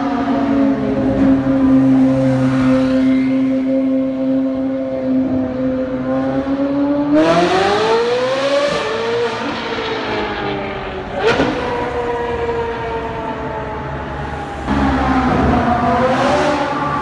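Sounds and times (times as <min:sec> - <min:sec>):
car engine revving in tunnel: 0:00.0 - 0:17.0.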